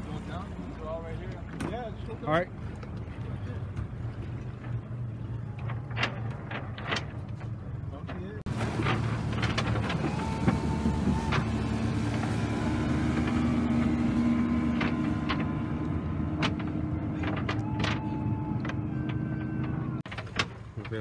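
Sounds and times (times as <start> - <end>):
boat passing at speed: 0.0 - 20.8
outboard motor running: 0.0 - 21.0.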